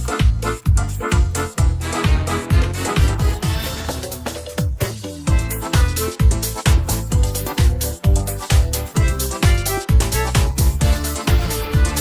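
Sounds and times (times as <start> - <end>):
kick drum: 0.0 - 12.0
pop dance backing track: 0.0 - 12.0.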